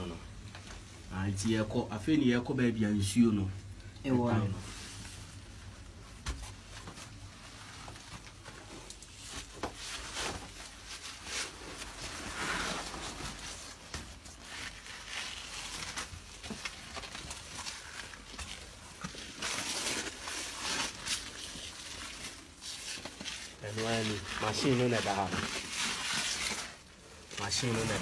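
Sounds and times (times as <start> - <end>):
rustling: 4.5 - 28.0.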